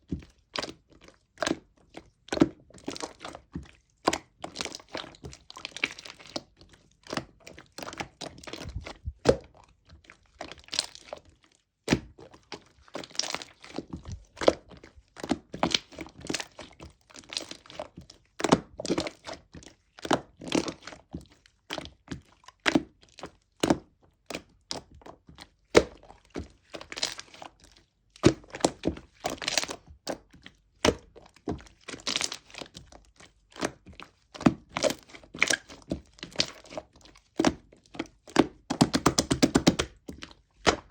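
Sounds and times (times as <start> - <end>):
slime clicking and squishing: 0.1 - 40.9.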